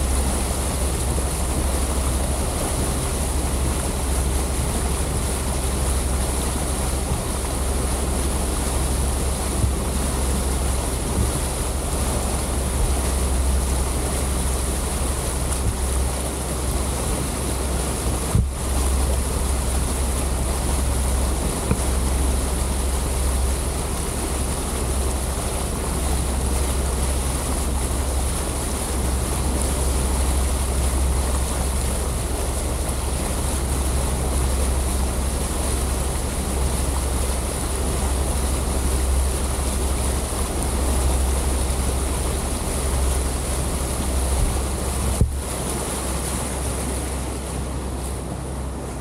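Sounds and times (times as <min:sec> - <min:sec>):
motorboat motor hum: 0:00.0 - 0:49.0
water noise: 0:00.0 - 0:49.0.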